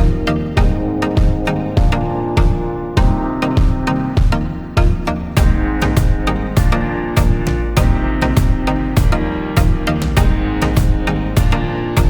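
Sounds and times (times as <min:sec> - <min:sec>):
music with strong beat: 0:00.0 - 0:12.0.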